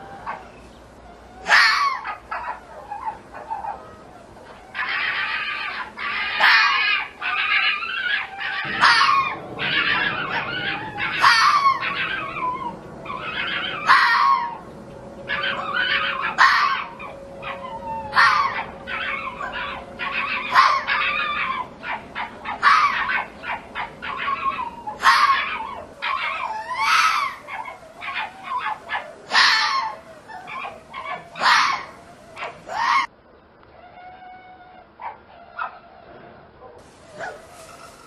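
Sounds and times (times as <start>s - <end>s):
fox screaming calls: 0.0s - 33.1s, 33.7s - 36.1s
fox yelps: 0.0s - 33.1s, 33.7s - 36.1s, 37.0s - 38.0s.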